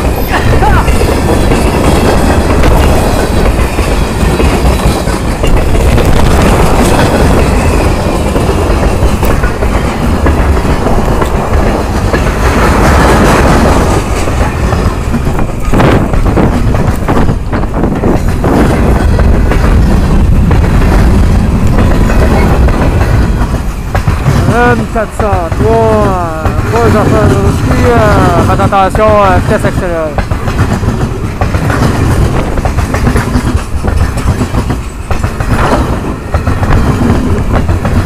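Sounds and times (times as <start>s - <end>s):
train wheels rumbling on rail: 0.0s - 38.0s
wheels clicking over rail joints: 0.0s - 38.0s.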